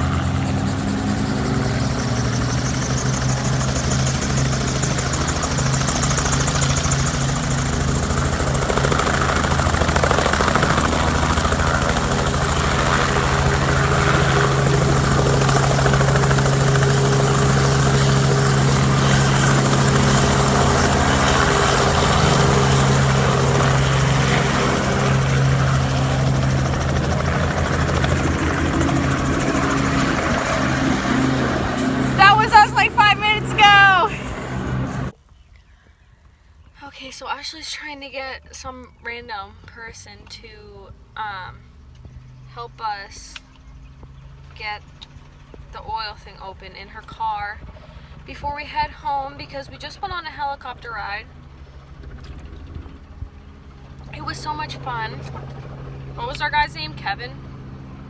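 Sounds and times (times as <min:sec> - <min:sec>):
helicopter rotor and engine: 0:00.0 - 0:35.2, 0:36.6 - 0:58.0.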